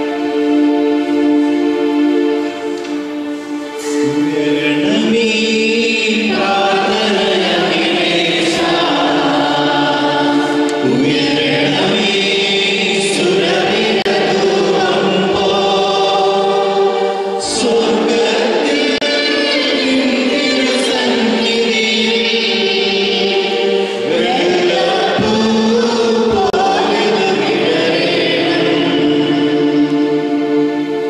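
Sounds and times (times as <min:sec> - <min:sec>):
choir singing a hymn: 0:00.0 - 0:31.0.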